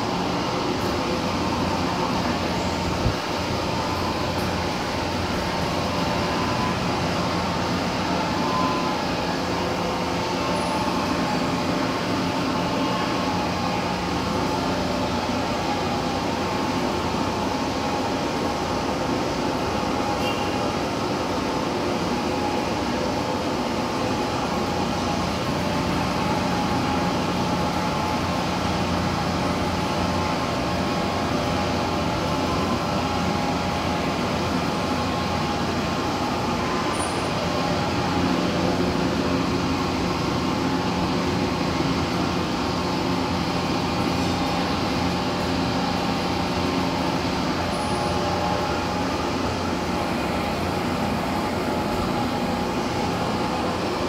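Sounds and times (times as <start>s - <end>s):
lathe humming and rumbling: 0.0s - 54.0s.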